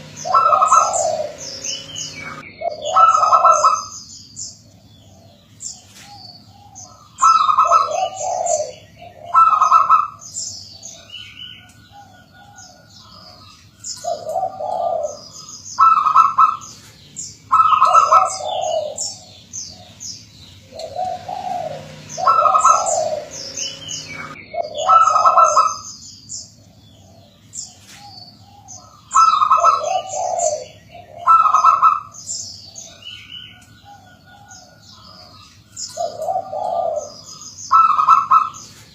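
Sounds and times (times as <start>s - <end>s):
doves cooing: 0.0s - 38.9s
small birds chirping: 0.0s - 38.9s.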